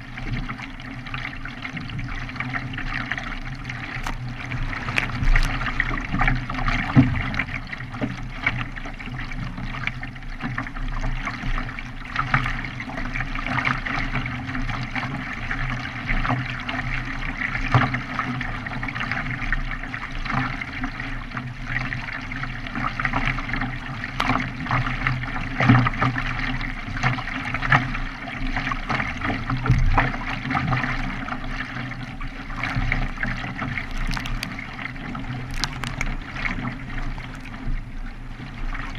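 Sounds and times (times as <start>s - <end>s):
paddle splashes: 0.0s - 38.9s
water sloshing around kayak: 0.0s - 38.9s
water washing along hull: 0.0s - 38.9s.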